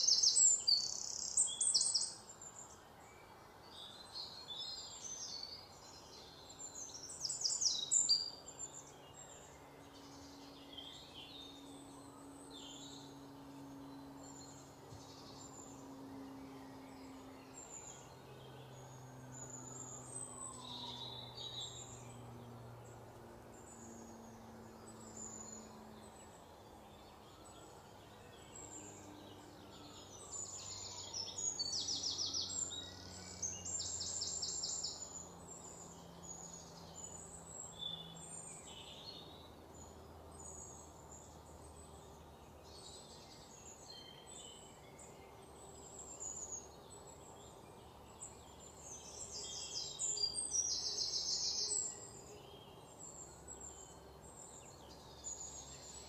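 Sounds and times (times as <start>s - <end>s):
faint low outdoor drone: 0.0s - 56.0s.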